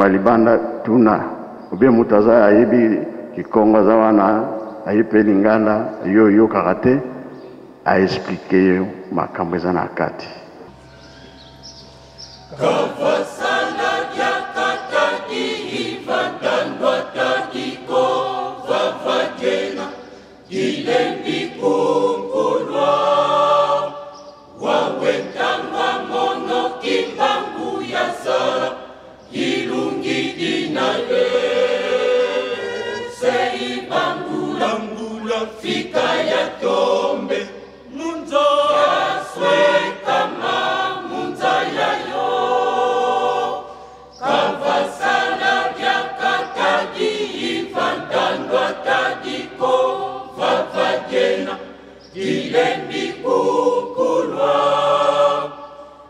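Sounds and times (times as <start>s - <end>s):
choir singing: 10.6s - 56.0s.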